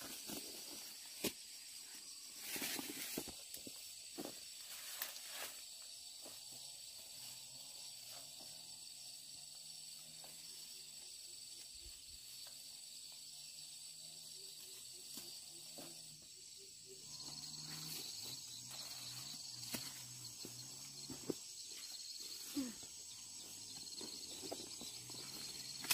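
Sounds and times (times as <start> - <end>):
insects trilling: 0.0 - 25.9.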